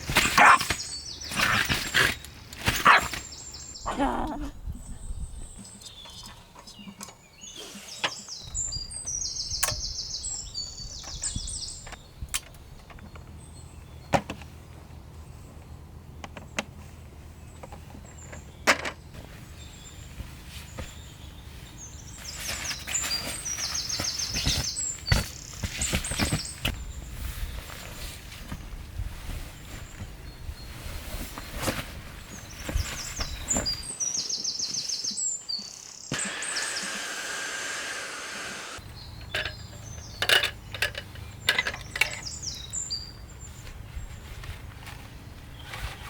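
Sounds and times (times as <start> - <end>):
small birds singing: 0.0 - 46.0.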